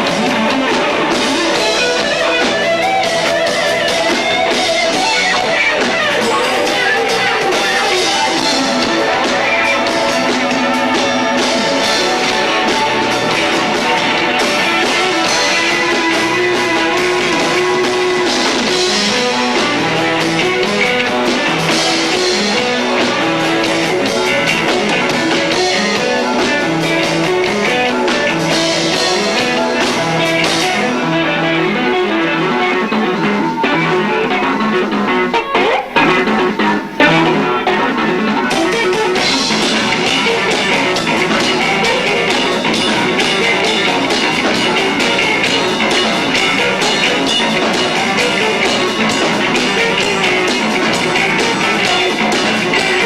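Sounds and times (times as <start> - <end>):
distorted electric guitar: 0.0 - 53.0
live rock band playing: 0.0 - 53.0.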